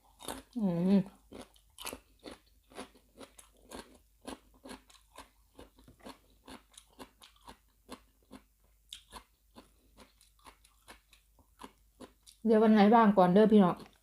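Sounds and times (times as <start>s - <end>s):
close-up chewing crunches: 0.0s - 12.4s, 13.8s - 14.0s.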